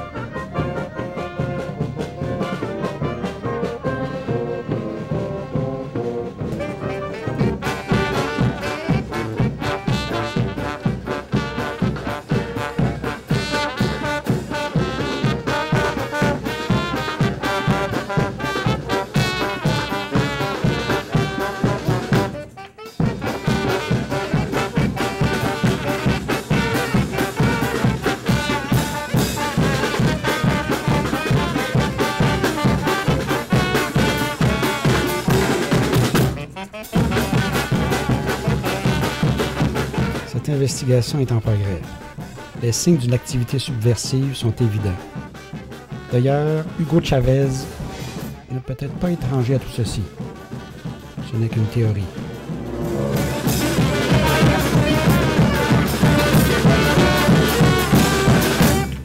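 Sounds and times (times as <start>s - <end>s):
brass band playing horns: 0.0s - 59.0s
steady drum beat: 0.0s - 59.0s.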